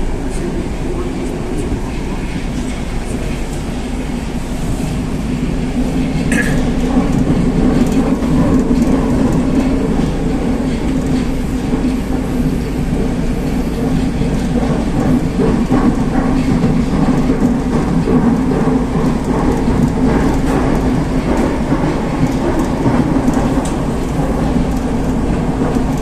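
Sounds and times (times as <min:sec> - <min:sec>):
metro train wheels rumbling: 0:00.0 - 0:26.0.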